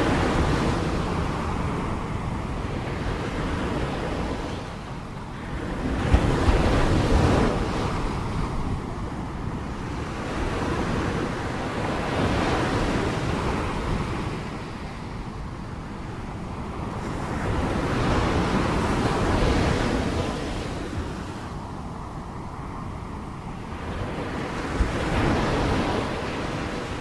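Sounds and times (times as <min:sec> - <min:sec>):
sea waves washing ashore: 0:00.0 - 0:27.0
wind rumbling on microphone: 0:00.0 - 0:27.0.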